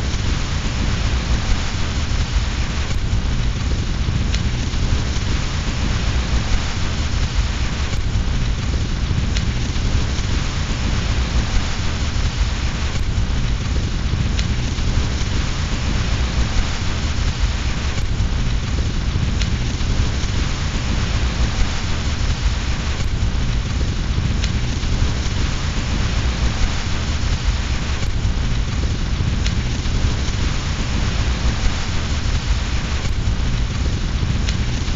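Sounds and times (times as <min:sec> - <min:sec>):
deep low rumble: 0:00.0 - 0:34.9
fireplace fire crackling: 0:00.0 - 0:34.9
steady rain: 0:00.0 - 0:34.9.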